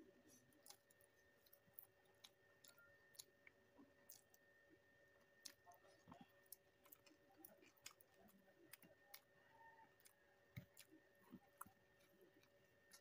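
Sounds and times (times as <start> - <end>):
low steady hum: 0.0 - 13.0
mouth clicks and smacks chewing: 0.6 - 4.4, 5.3 - 9.3, 9.9 - 13.0.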